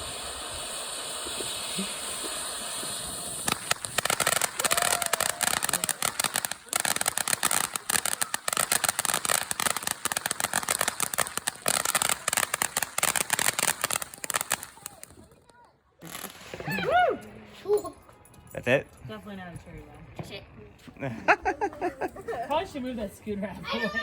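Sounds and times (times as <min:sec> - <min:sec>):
ground firework crackling: 0:00.0 - 0:24.0.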